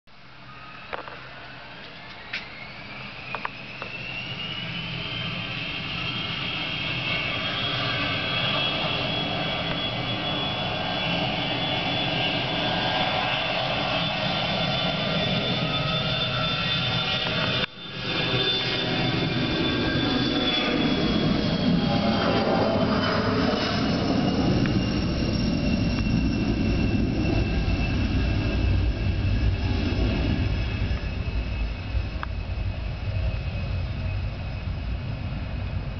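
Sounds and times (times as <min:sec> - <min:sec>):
jet engines spooling up: 0:00.2 - 0:35.9.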